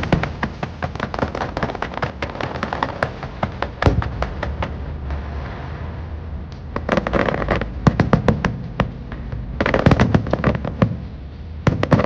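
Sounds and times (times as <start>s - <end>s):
firework bangs and crackles: 0.0s - 12.0s
low rumble: 0.0s - 12.0s.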